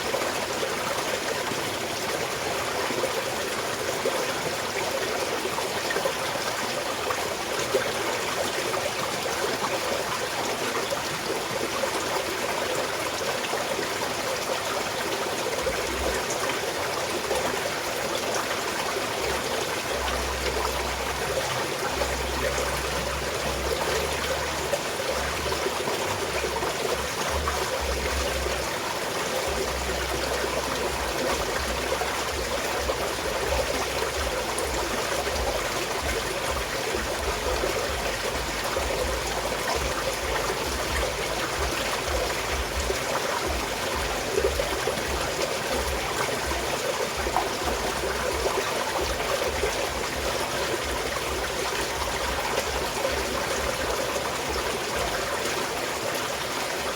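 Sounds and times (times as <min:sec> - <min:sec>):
stream flowing and trickling: 0:00.0 - 0:56.9.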